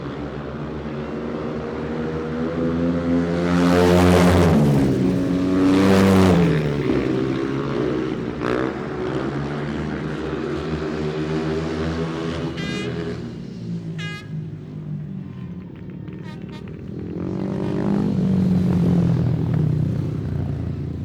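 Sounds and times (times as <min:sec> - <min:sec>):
engines running steadily: 0:00.0 - 0:21.0
racing engines passing at speed: 0:00.0 - 0:21.0.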